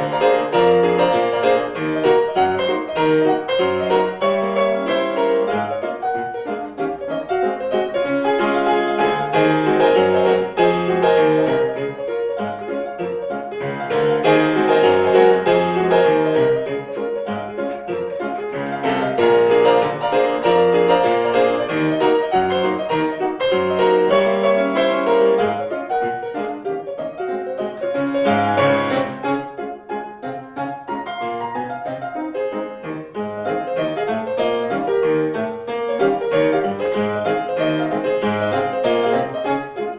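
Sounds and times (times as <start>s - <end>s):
solo piano music: 0.0s - 39.9s.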